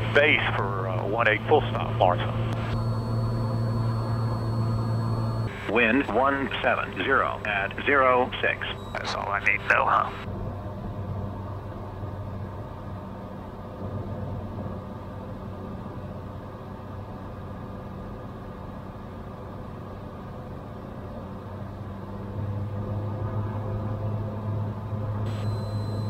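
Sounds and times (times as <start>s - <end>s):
airplane engine and propeller droning: 0.0s - 26.0s.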